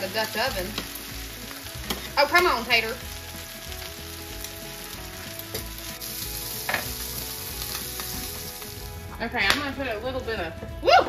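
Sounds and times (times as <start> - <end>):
potatoes sizzling in oil: 0.0 - 11.0
oil popping: 0.4 - 11.0.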